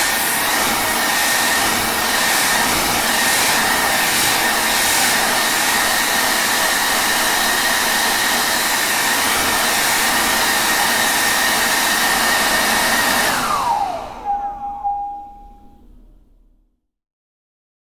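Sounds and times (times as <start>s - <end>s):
hair dryer blowing: 0.0s - 15.8s.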